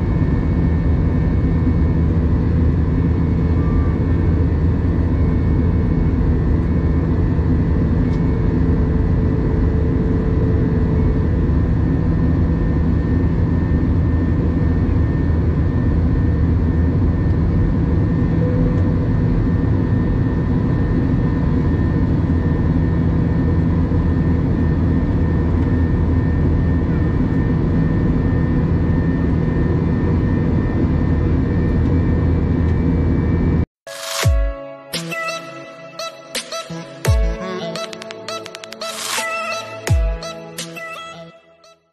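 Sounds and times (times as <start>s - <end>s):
airliner cabin engine drone: 0.0s - 41.7s.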